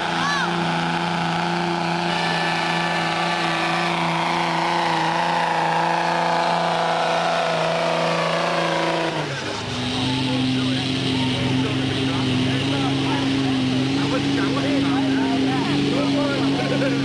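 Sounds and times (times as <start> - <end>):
truck engine revving high: 0.0 - 17.0.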